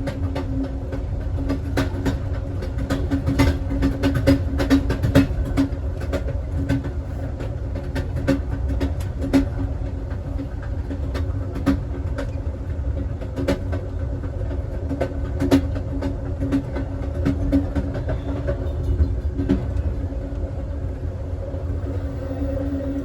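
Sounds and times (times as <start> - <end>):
train clicks and knocks: 0.0 - 23.0
train rumbling: 0.0 - 23.0.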